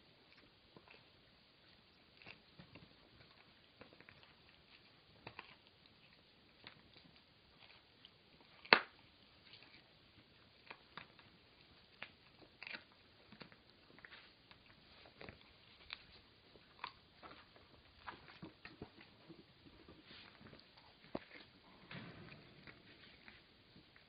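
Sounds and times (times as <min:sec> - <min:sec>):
dogs gnawing on hard chews: 0:00.2 - 0:24.0.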